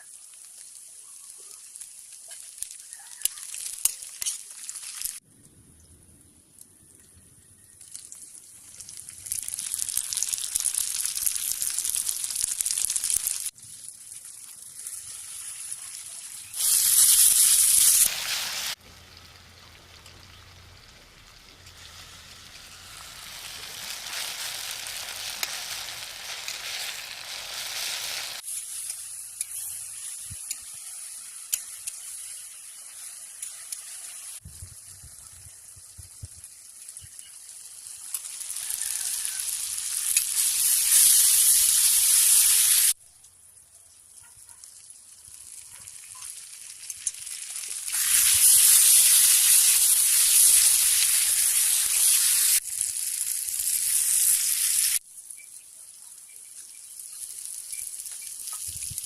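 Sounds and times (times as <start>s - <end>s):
food sizzling in a pan: 0.0s - 5.2s, 7.6s - 59.0s.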